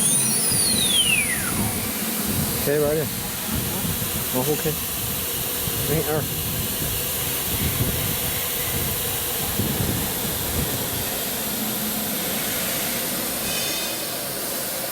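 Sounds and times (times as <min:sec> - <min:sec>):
router machine hissing: 0:00.0 - 0:14.7.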